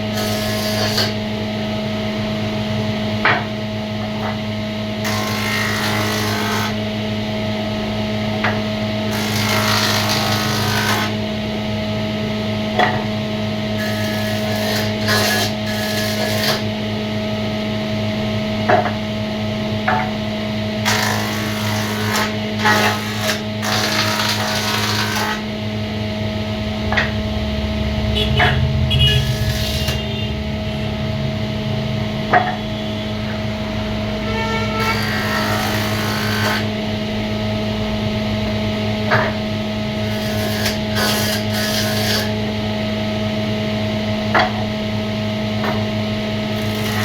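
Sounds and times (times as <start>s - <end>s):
steady machine hum: 0.0s - 47.0s.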